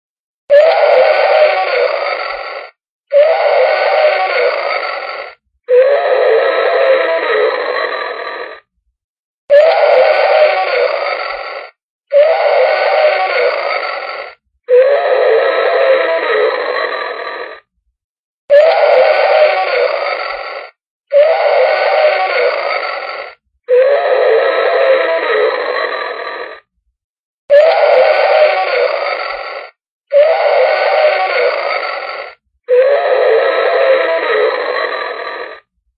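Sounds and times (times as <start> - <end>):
dinosaur roar: 0.5 - 8.7, 9.5 - 17.7, 18.5 - 26.7, 27.5 - 35.8.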